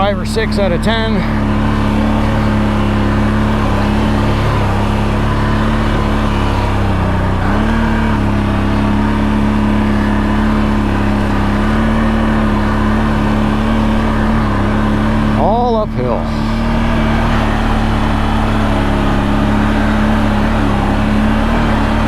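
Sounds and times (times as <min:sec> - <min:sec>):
atv engine running under load: 0:00.0 - 0:22.0.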